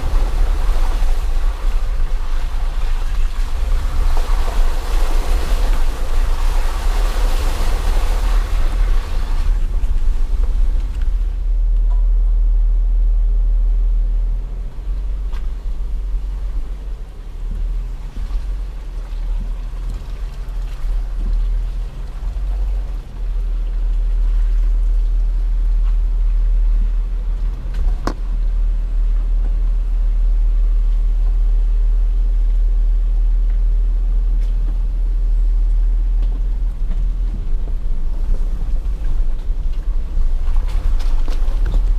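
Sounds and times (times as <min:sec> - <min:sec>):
off-road vehicle rumbling: 0:00.0 - 0:41.9.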